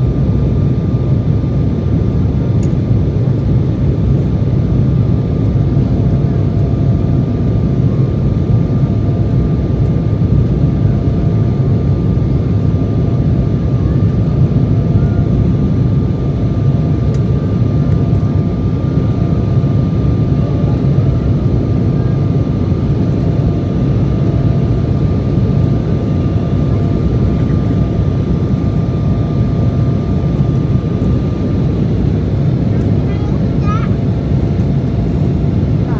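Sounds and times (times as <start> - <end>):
faint engine whine: 0.0 - 35.9
jet engine rumble in cabin: 0.0 - 35.9.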